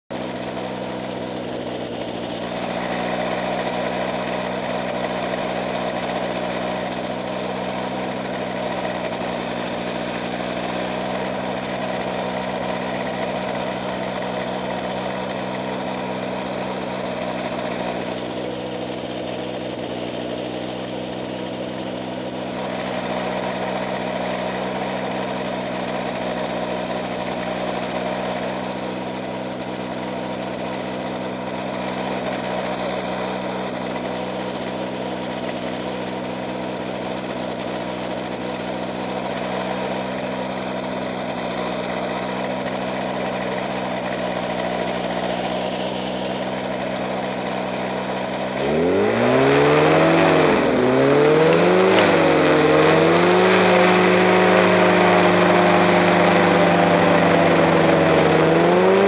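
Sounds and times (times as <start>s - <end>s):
drone propellers humming: 0.1s - 59.0s.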